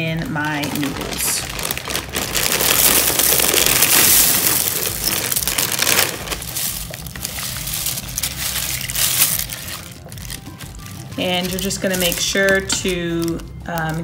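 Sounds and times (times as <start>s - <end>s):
dry noodles pouring from plastic bag: 0.0s - 14.0s.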